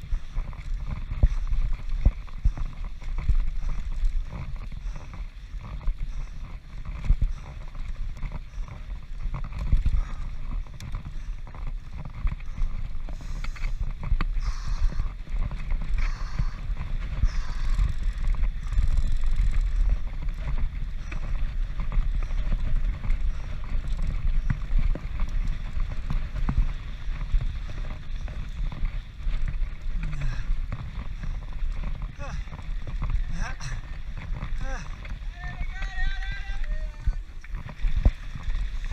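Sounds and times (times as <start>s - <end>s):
bike rattling over bumps: 0.0s - 38.9s
tyres and wind rumbling: 0.0s - 38.9s.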